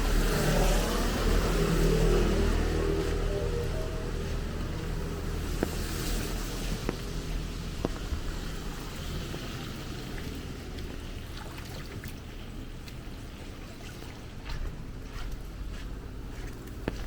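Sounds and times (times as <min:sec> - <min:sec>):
rain and running water: 0:00.0 - 0:17.0
water drips and ticks: 0:00.1 - 0:17.0.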